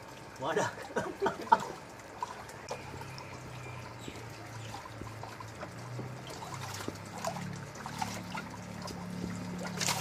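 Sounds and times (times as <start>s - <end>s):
low steady hum: 0.0s - 10.0s
water sloshing in tank: 0.0s - 10.0s.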